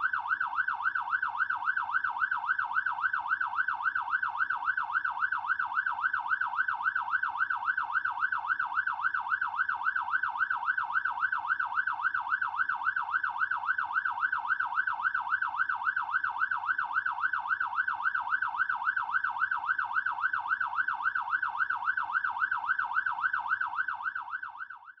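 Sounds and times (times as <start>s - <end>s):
fire truck siren yelping: 0.0s - 25.0s.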